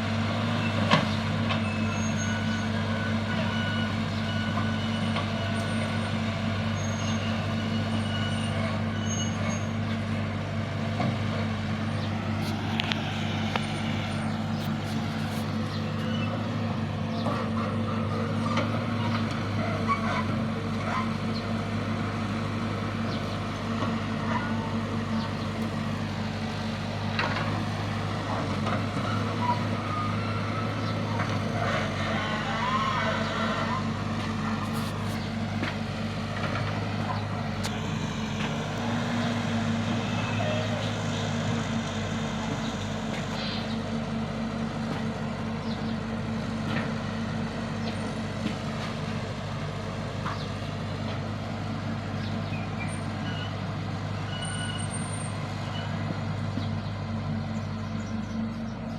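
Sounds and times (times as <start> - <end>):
heavy machinery engine running: 0.0 - 58.9.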